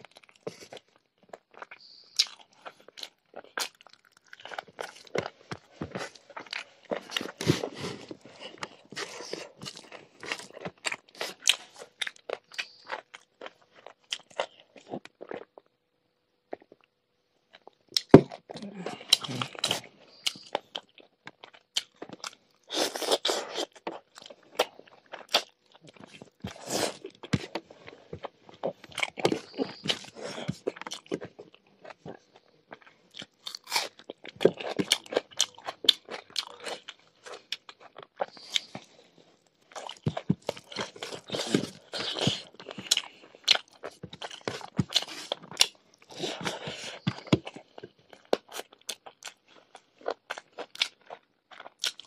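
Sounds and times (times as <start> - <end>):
person chewing and crunching: 0.0 - 15.8, 16.5 - 52.0.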